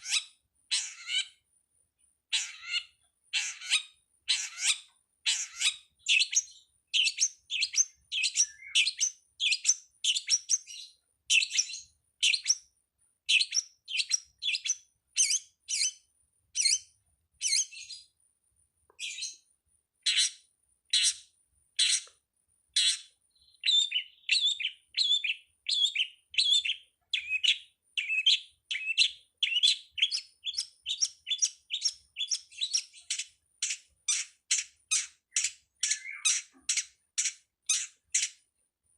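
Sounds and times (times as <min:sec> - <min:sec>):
bird chirping: 0:00.0 - 0:18.2, 0:18.9 - 0:38.7.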